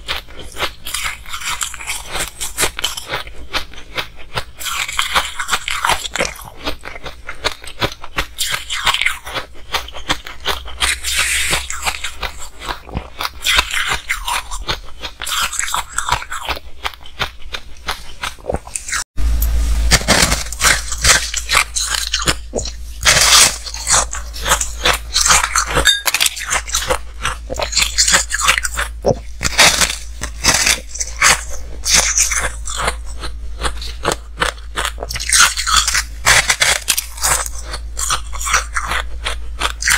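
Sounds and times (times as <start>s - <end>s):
ice crunching and chewing: 0.0s - 19.1s, 19.9s - 39.9s.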